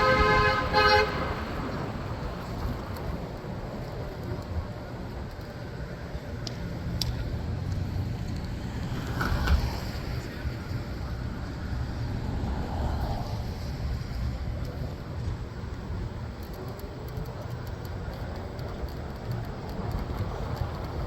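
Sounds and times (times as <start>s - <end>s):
city street traffic rumble: 0.0s - 21.0s.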